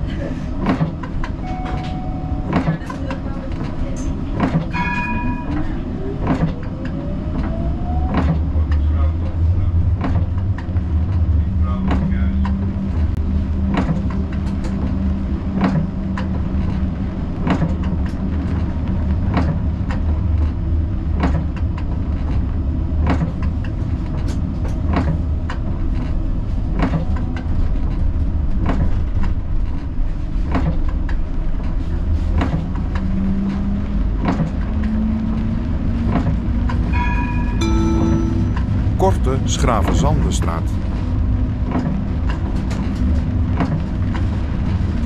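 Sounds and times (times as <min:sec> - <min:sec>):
tram rumbling on track: 0:00.0 - 0:45.0.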